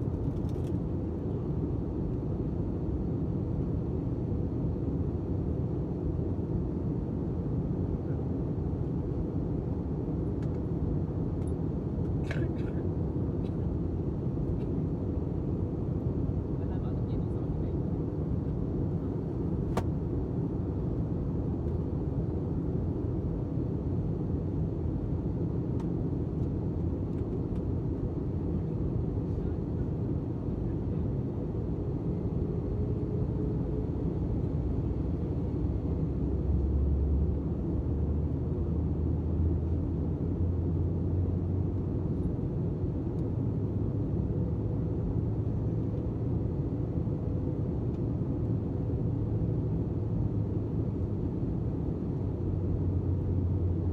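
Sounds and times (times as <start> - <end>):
airliner engine rumble: 0.0 - 53.9.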